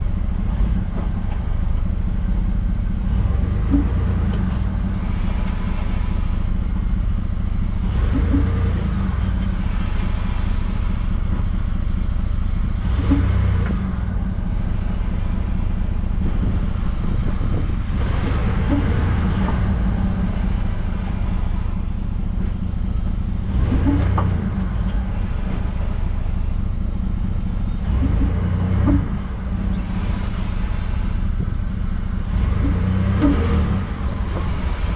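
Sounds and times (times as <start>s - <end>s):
truck engine low rumble: 0.0s - 34.9s.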